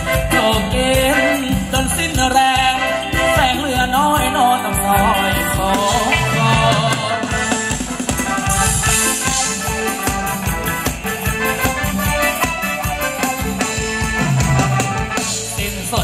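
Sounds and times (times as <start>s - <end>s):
live band dance music: 0.0s - 16.0s
steady drum beat: 0.0s - 16.0s.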